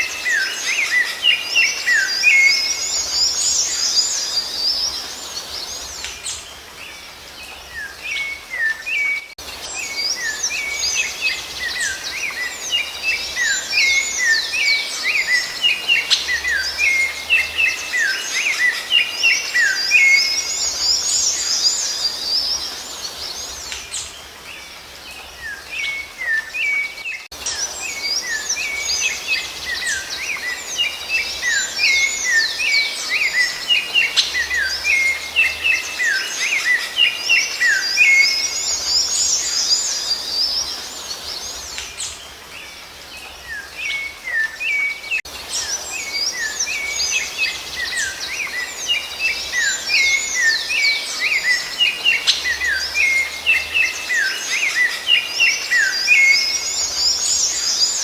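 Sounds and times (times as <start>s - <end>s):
thrush singing whistled notes: 0.0s - 58.0s.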